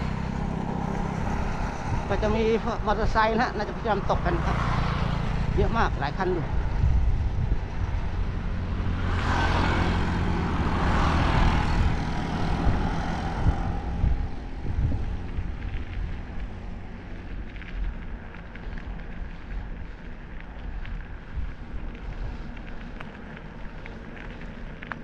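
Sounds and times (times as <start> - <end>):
road noise from bicycle: 0.0 - 25.0
wind rumble: 0.0 - 25.0.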